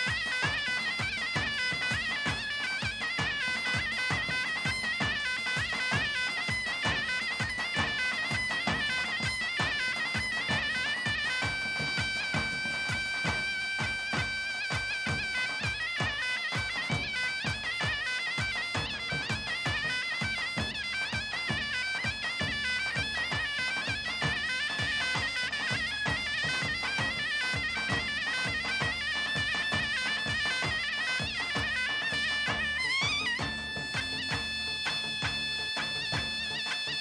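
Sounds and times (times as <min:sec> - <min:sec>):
reedy wind instrument dance tune: 0:00.0 - 0:37.0.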